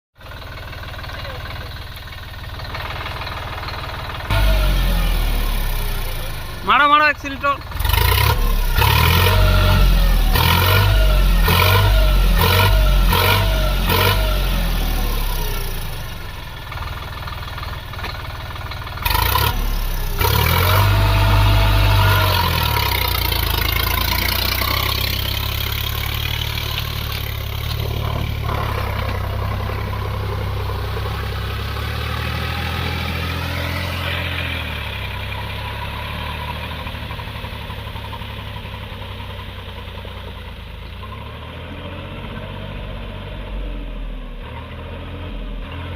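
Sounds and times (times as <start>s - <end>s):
tractor diesel engine under load: 0.1s - 45.9s.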